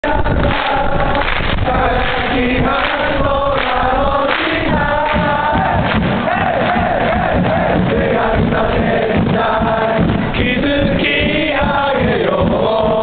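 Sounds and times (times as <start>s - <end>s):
crowd singing a chant: 0.0s - 13.0s.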